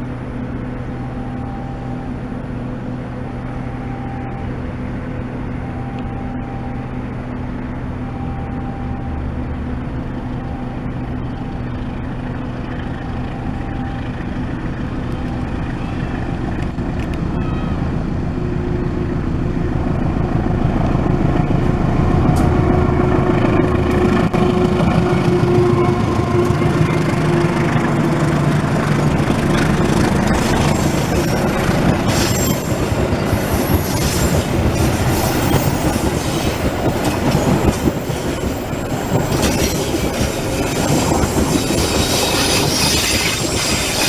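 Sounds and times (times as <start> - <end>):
locomotive diesel engine running: 0.0 - 44.0.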